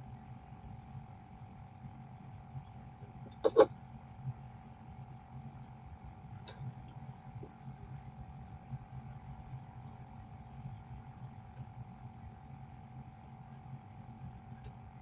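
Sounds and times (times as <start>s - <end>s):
constant mid-pitched tone: 0.0s - 15.0s
electrical hum: 0.0s - 15.0s.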